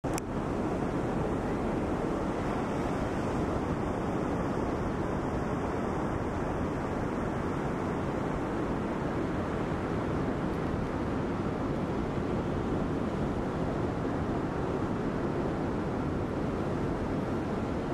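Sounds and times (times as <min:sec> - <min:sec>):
surf rushing: 0:00.1 - 0:17.9.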